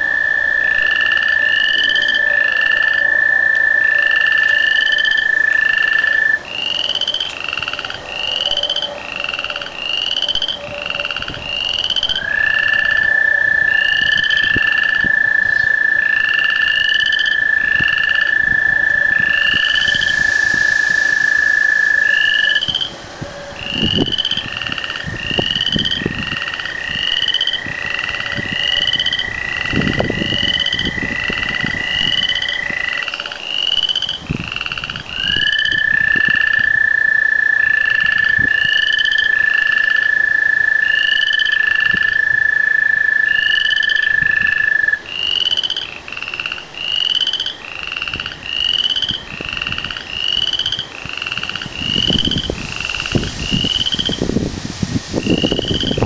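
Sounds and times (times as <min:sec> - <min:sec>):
tree frogs peeping: 0:00.0 - 0:56.0.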